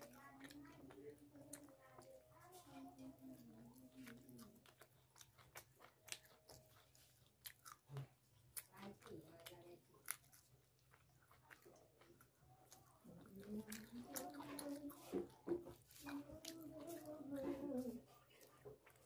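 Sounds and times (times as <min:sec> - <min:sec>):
person chewing and biting: 0:00.0 - 0:19.0.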